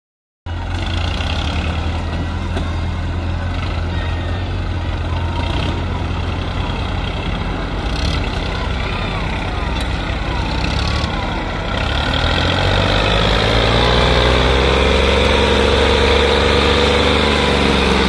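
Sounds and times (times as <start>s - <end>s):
tractor diesel engine running: 0.5s - 18.0s.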